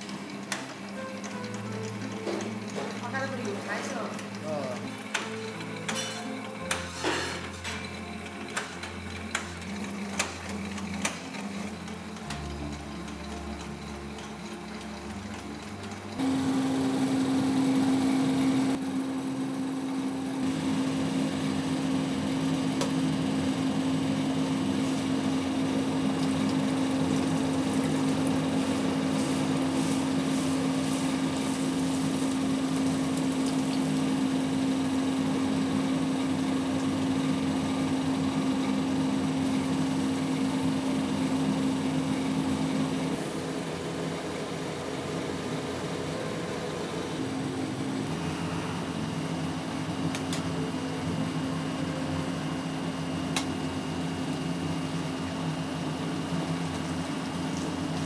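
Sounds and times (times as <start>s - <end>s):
electric motor humming: 0.0s - 58.0s.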